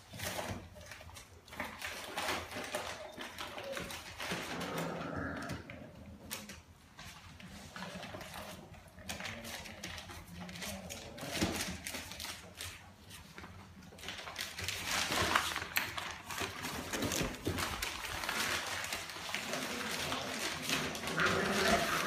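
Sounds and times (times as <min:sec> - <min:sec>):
puppy paws scratching on paper: 0:00.0 - 0:22.0.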